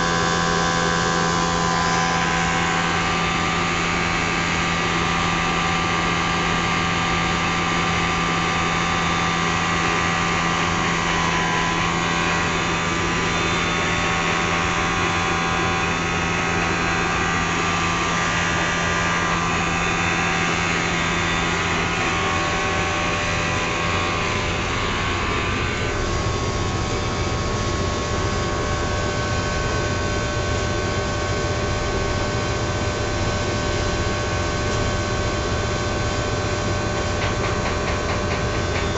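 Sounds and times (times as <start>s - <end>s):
blower motor humming: 0.0s - 38.9s.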